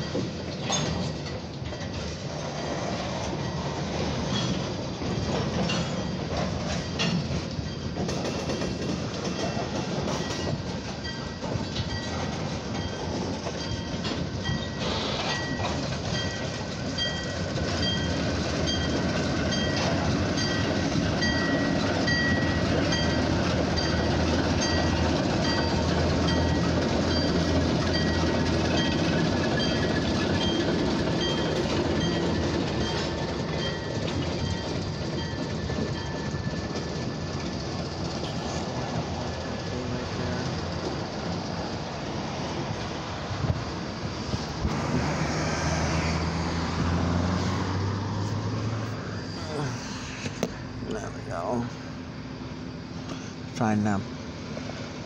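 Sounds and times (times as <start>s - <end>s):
train wheels clacking over joints: 0.0s - 52.0s
diesel locomotive engine: 0.0s - 55.0s.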